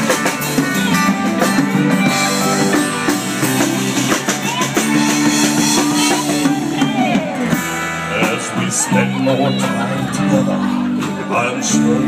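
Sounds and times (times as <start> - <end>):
acoustic guitar: 0.0 - 12.0
drum kit: 0.0 - 12.0.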